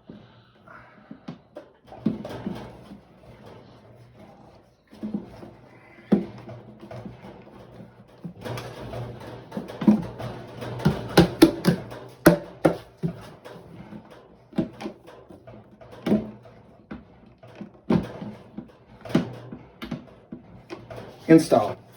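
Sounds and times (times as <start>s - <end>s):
outboard motor cover clattering: 1.1s - 21.9s.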